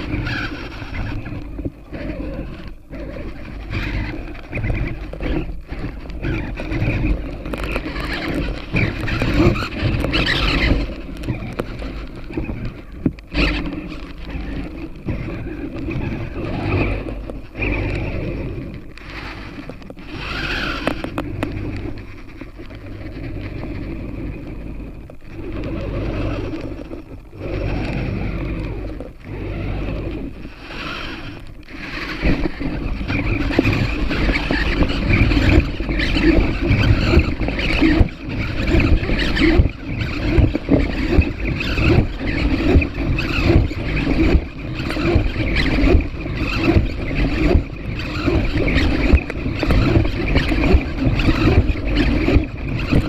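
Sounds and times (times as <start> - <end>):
robot legs scraping: 0.0 - 53.0
servo motors whining: 0.0 - 53.0.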